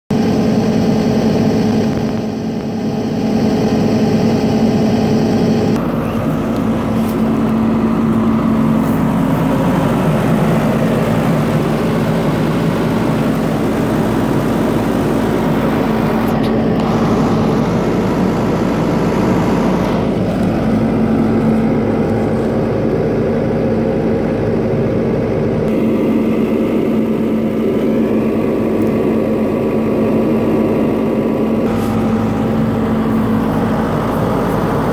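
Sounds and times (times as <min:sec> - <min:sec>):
excavator diesel engine humming: 0:00.1 - 0:34.9.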